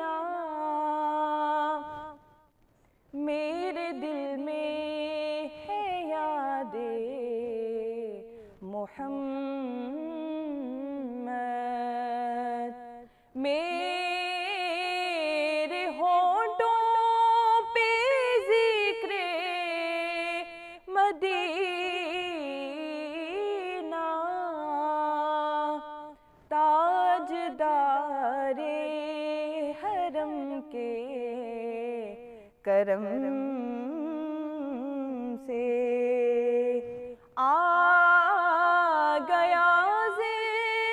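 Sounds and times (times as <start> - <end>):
woman singing: 0.0 - 40.9.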